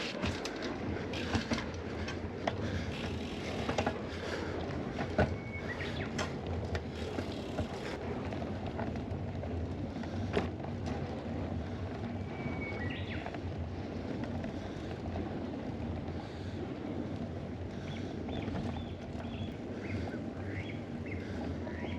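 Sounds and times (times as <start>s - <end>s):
wind rumble on microphone: 0.0s - 21.9s.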